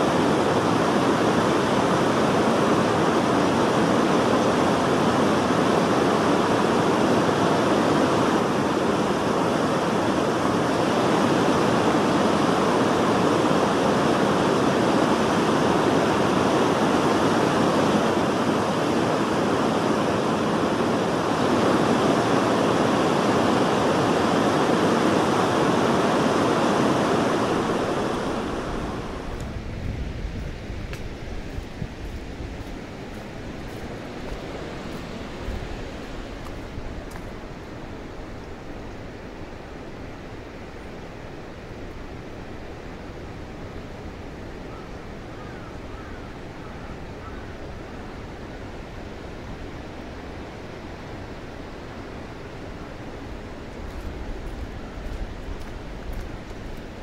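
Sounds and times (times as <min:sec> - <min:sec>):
river water rushing over weir: 0:00.0 - 0:57.0.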